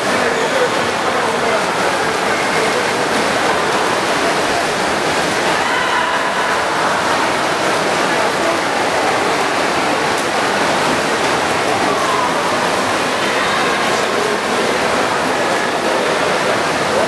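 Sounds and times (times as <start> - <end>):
spectators' voices: 0.0 - 17.0
swimmers splashing water: 0.0 - 17.0.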